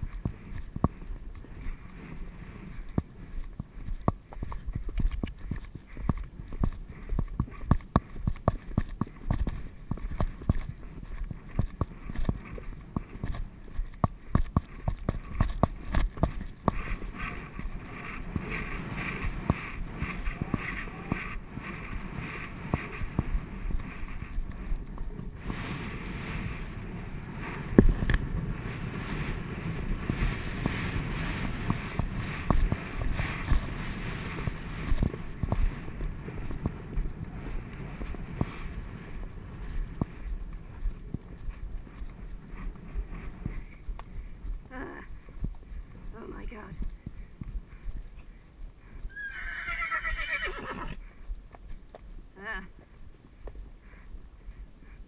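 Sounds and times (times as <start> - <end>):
horse hoofbeats on grass: 0.0 - 55.0
wind on microphone: 0.0 - 55.0.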